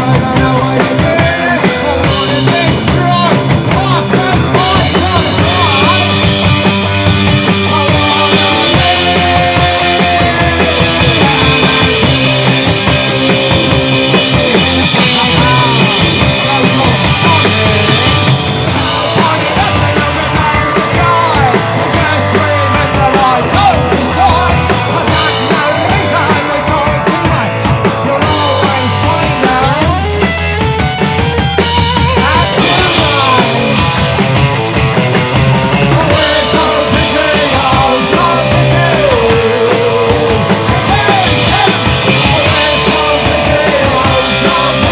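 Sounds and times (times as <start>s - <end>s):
punk rock band playing: 0.0s - 44.9s.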